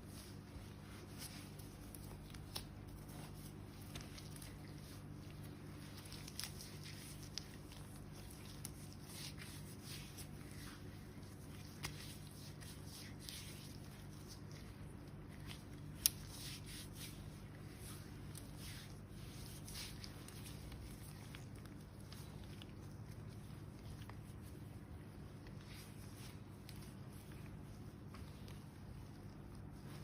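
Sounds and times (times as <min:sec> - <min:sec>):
faint low hum: 0:00.0 - 0:30.0
hands rustling on skin: 0:00.0 - 0:30.0.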